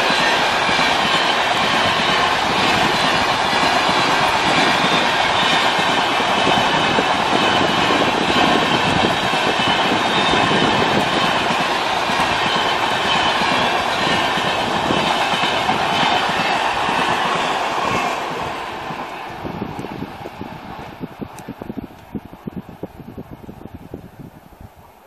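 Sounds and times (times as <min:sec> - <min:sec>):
train wheels rumbling and clattering: 0:00.0 - 0:23.2.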